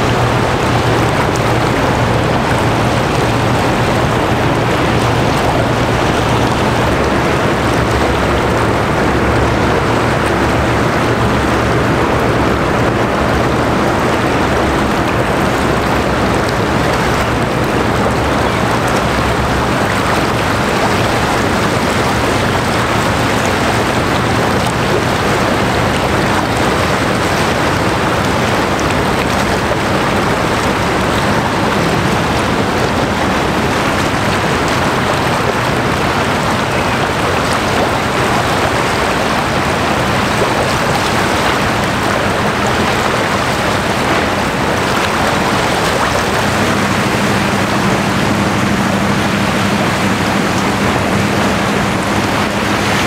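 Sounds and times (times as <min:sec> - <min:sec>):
low ship hum: 0:00.0 - 0:53.0
rushing water from ship wake: 0:00.0 - 0:53.0.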